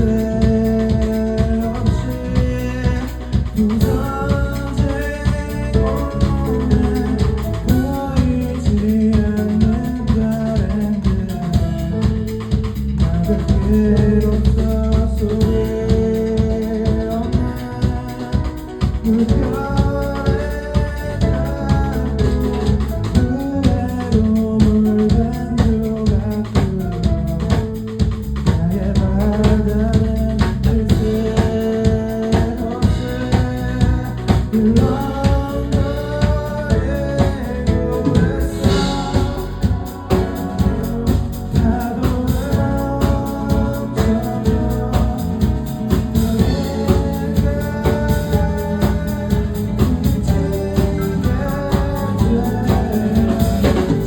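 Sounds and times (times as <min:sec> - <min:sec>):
band playing: 0:00.0 - 0:54.0
drum kit beat: 0:00.0 - 0:54.0
person singing: 0:00.0 - 0:54.0.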